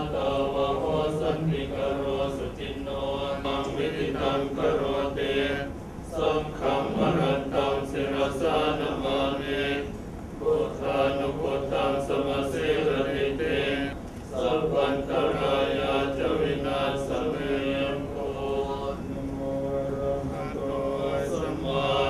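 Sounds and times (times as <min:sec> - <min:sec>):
voices chanting: 0:00.0 - 0:22.0.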